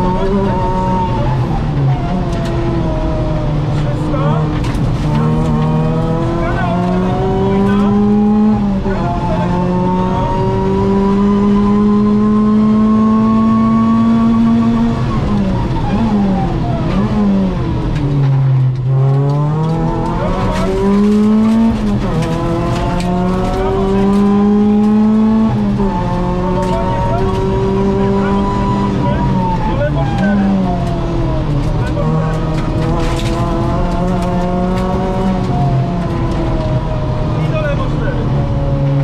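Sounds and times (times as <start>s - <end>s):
car engine under full throttle: 0.0s - 39.0s.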